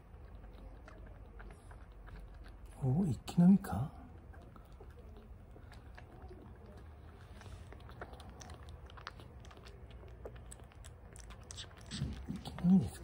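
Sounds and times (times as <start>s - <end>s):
kitten suckling from bottle: 0.0s - 13.0s.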